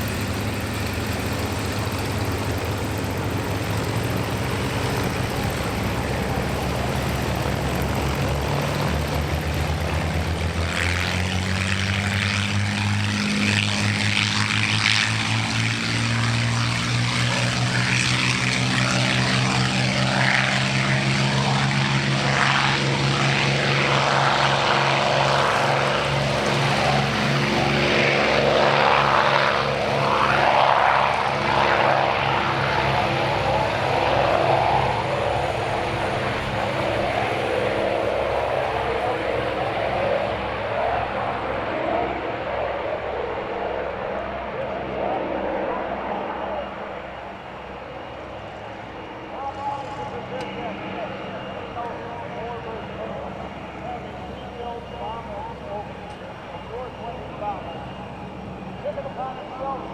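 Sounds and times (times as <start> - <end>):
piston aircraft engines running: 0.0 - 59.9.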